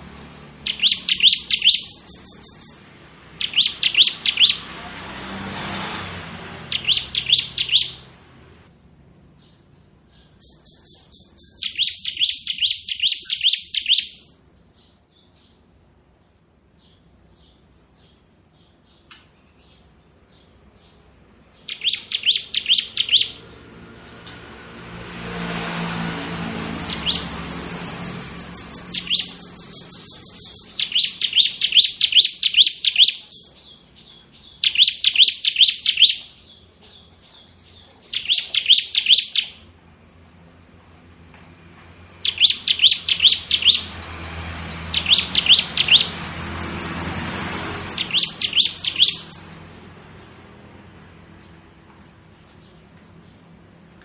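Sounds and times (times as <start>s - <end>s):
bird singing fast trills: 0.0s - 4.7s, 6.5s - 24.3s, 26.2s - 41.1s, 42.0s - 54.0s.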